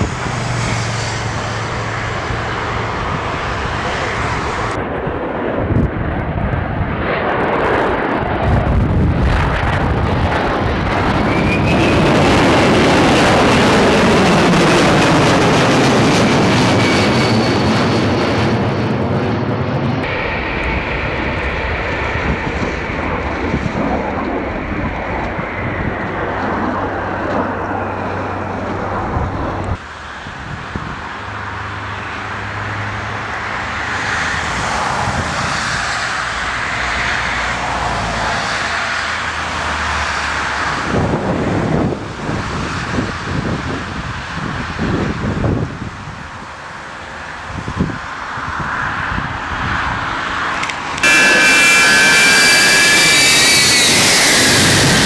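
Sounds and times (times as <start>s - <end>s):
high engine whine: 0.0s - 43.1s, 45.4s - 55.0s
jet engines of aircraft landing: 0.0s - 55.0s.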